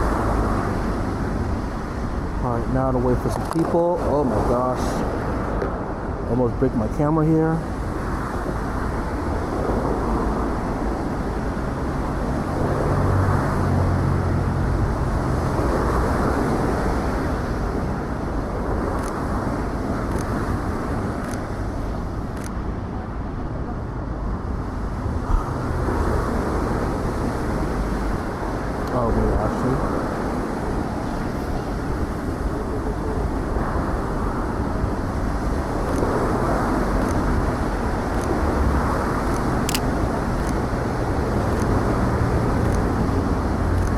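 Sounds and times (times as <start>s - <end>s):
street traffic: 0.0s - 43.9s.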